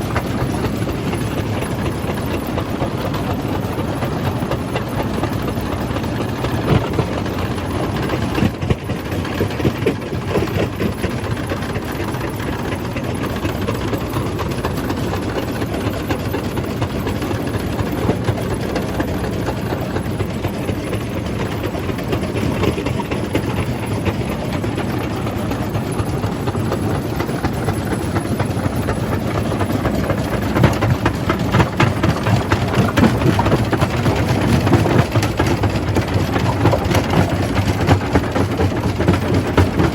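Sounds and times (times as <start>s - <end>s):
crusher machine low drone: 0.0s - 39.9s.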